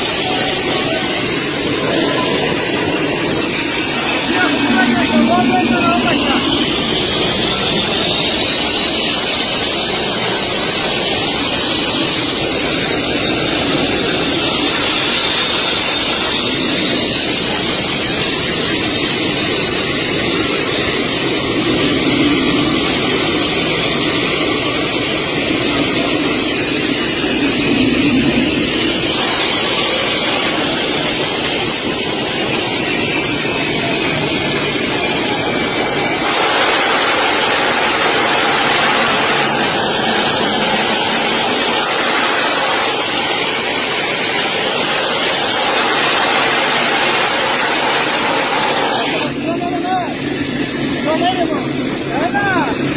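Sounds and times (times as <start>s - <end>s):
jet engines running loud: 0.0s - 52.9s.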